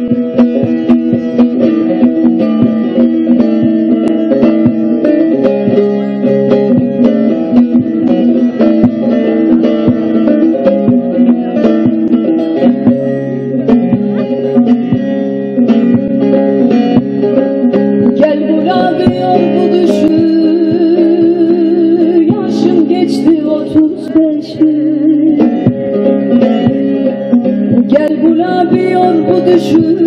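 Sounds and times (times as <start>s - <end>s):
plucked long-necked lute: 0.0s - 30.0s.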